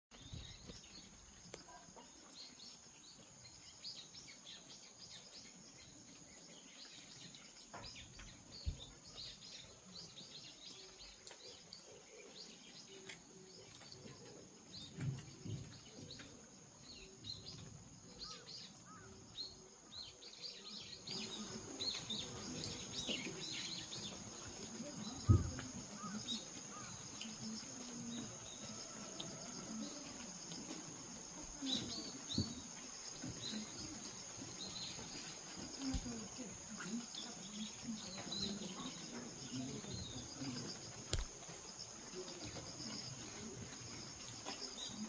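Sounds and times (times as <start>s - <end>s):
small birds chirping: 0.1s - 45.0s
steady high-pitched hiss: 0.1s - 45.0s.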